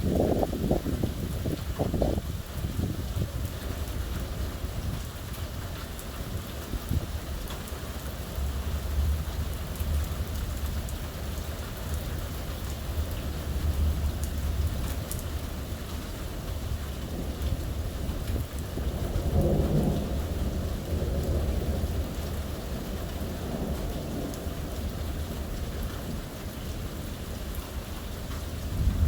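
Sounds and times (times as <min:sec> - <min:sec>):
low thunder rumble: 0:00.0 - 0:11.6, 0:13.0 - 0:27.9, 0:28.5 - 0:29.0
heavy rain pattering: 0:00.0 - 0:29.0.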